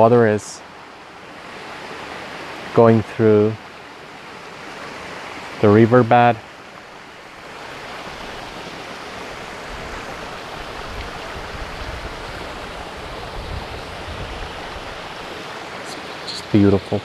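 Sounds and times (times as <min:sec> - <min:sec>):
stream splashing over rocks: 0:00.6 - 0:17.0.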